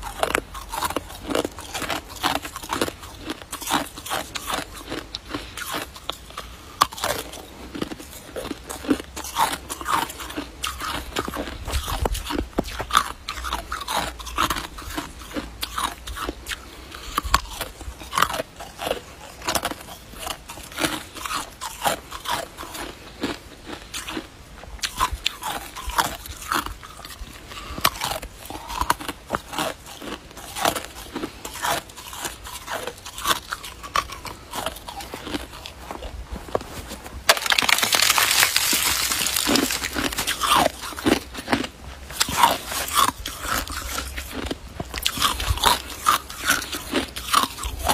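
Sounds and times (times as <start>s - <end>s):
person crunching ice: 0.0s - 47.9s.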